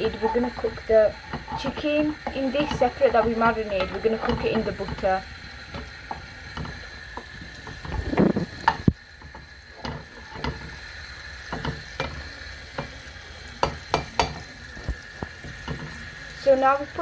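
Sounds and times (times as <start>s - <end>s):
utensil knocking and scraping pot: 0.0s - 16.4s
butter sizzling in a pot: 0.0s - 17.0s.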